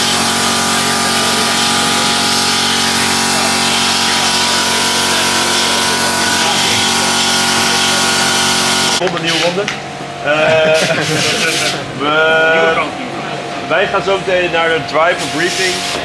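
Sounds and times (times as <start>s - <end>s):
machine hum and whir: 0.0s - 16.0s.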